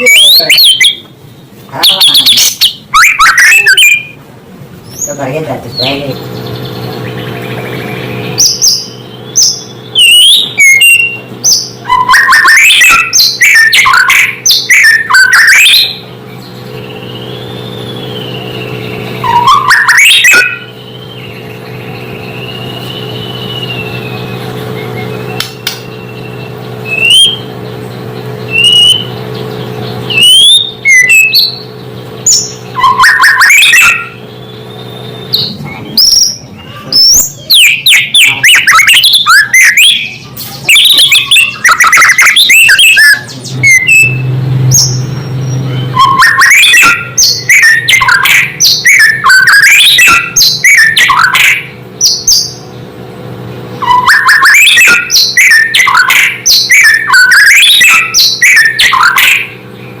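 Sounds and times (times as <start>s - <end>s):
bird singing whistles: 0.0s - 1.0s, 1.8s - 4.2s, 7.1s - 16.0s, 16.8s - 27.5s, 28.4s - 52.7s, 53.8s - 59.6s.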